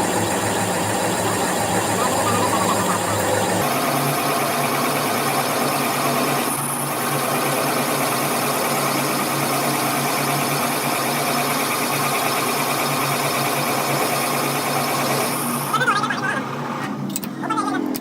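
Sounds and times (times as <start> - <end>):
workshop machine humming: 0.0 - 18.0.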